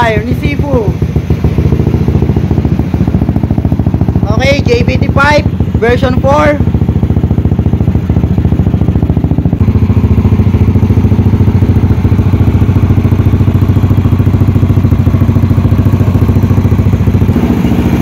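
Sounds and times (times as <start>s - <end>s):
scooter engine idling: 0.0s - 18.0s.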